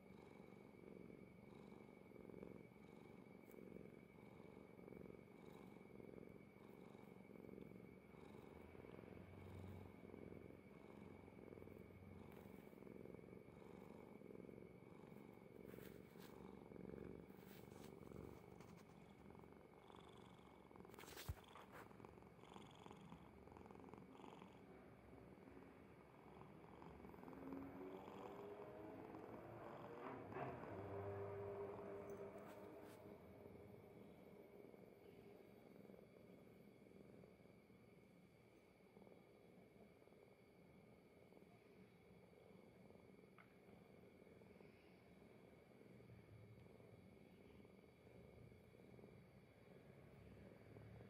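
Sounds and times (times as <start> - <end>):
kitten purring: 0.0 - 41.8.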